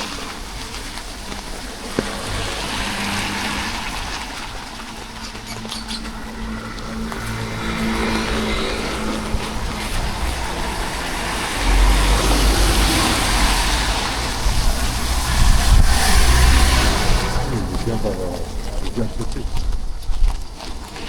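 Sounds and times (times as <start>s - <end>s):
vehicle engine running close: 0.0s - 19.6s
street traffic: 0.0s - 21.0s
wind buffeting microphone: 0.0s - 21.0s.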